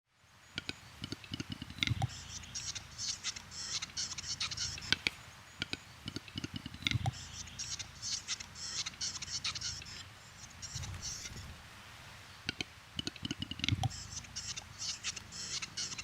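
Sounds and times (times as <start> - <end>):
bird display song clicks and hissing: 0.5 - 11.6, 12.5 - 16.0.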